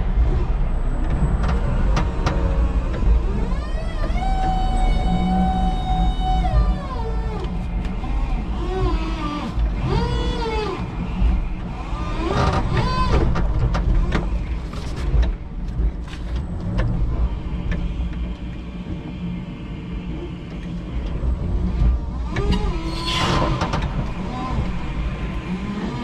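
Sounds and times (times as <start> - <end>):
forklift rumbling: 0.0 - 26.0.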